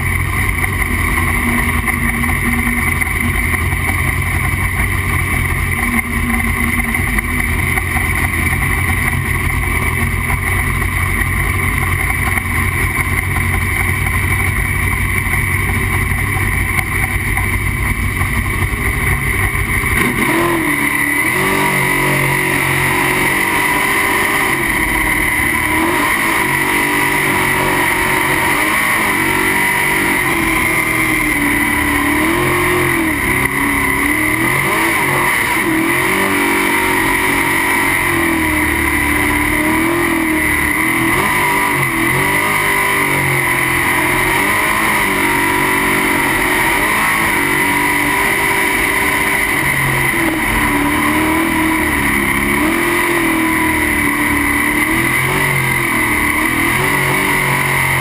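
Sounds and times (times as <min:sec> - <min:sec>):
boat racing engine running: 0:00.0 - 0:58.0.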